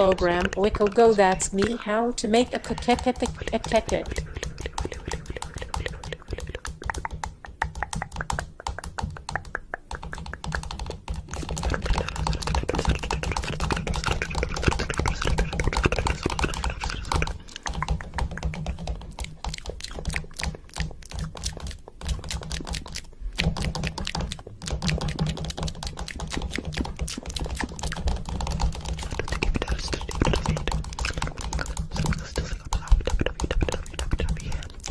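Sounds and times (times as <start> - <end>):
low steady hum: 0.0 - 34.9
rapid clicking: 0.0 - 34.9.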